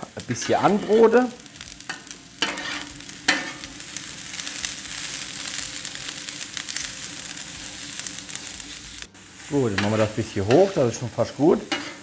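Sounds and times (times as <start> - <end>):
vegetables sizzling on a griddle: 0.0 - 12.0.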